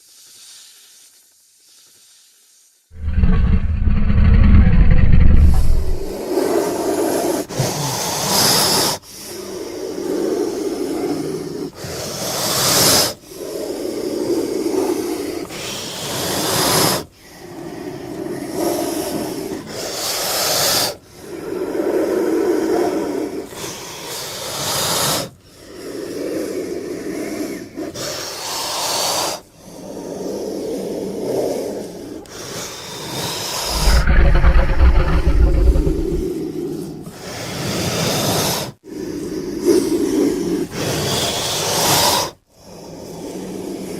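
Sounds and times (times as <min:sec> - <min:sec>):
raspy snake hisses: 0:00.0 - 0:36.3.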